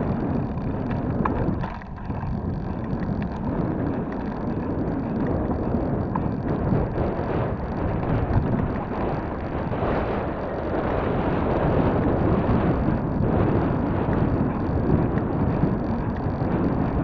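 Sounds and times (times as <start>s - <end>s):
bike tyre noise on paving: 0.0s - 17.0s
wind rushing over microphone: 0.0s - 17.0s.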